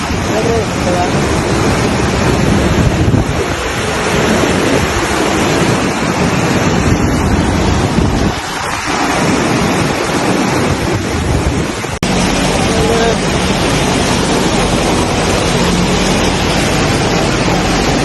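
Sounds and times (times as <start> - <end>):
water rushing: 0.0 - 18.0
wind buffeting microphone: 0.0 - 18.0.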